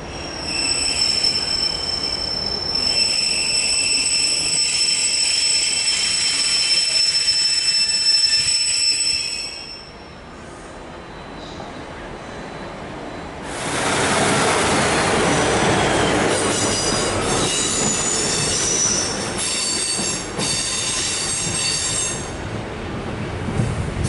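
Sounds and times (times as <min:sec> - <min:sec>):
steel wheels squealing on rails: 0:00.0 - 0:22.5
train rolling on track: 0:00.0 - 0:24.0.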